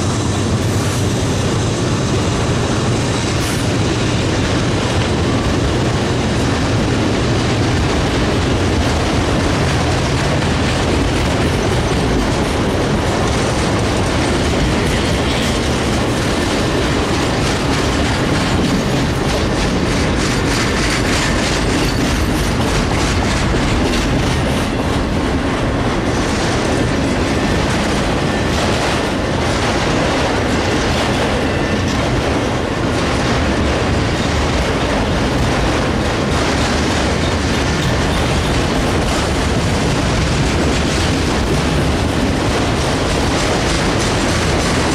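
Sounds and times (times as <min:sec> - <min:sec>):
train wheels rumbling on rail: 0:00.0 - 0:44.9
wheels clacking over rail joints: 0:00.0 - 0:44.9.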